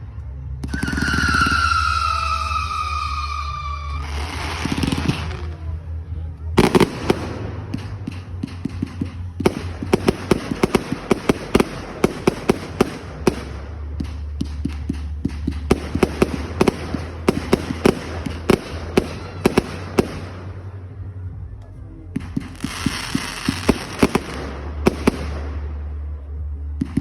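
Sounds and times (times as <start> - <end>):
low rumble: 0.0 - 27.0
fireworks bangs and crackling: 0.5 - 27.0.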